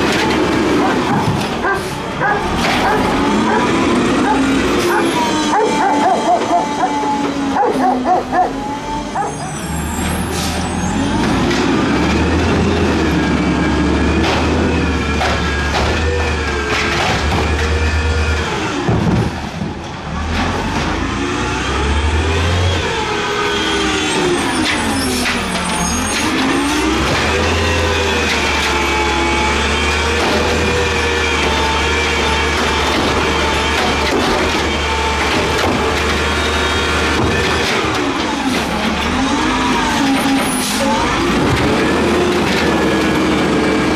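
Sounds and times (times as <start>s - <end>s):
diesel truck engine revving: 0.0s - 43.9s.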